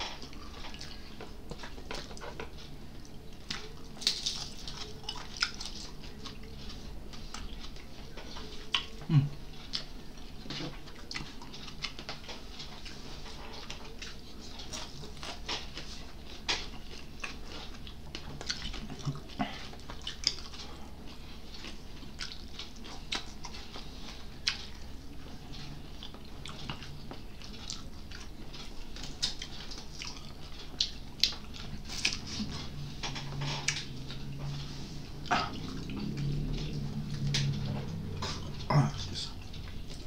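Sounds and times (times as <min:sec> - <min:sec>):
chewing and biting: 0:00.0 - 0:40.0.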